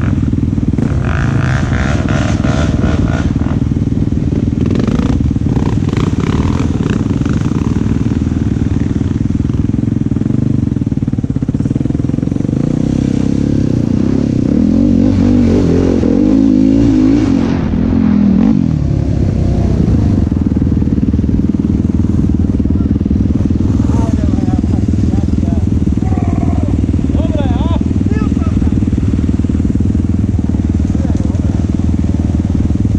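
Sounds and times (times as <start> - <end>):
quad bike engine revving: 0.0 - 32.9.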